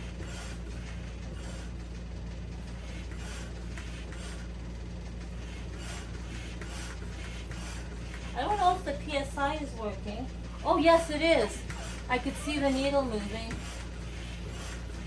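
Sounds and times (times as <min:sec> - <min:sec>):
hand pump strokes rushing air: 0:00.0 - 0:15.0
steady low hum: 0:00.0 - 0:15.0.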